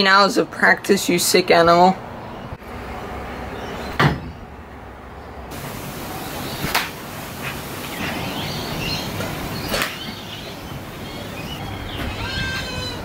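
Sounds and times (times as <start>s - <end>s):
birds chirping: 1.0s - 13.0s.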